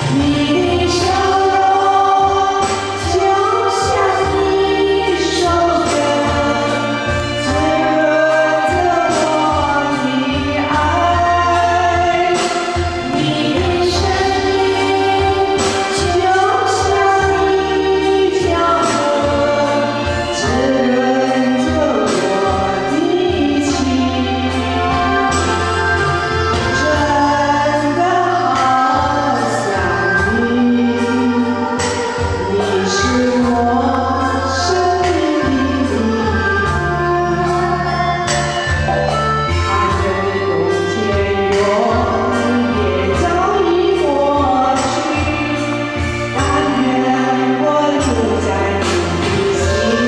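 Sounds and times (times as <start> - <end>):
backing track with bass beat: 0.0 - 50.0
woman singing into a microphone: 0.0 - 50.0.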